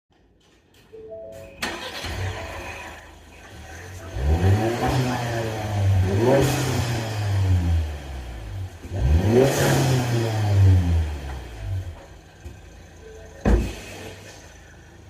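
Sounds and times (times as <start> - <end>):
car engine revving: 1.6 - 15.0.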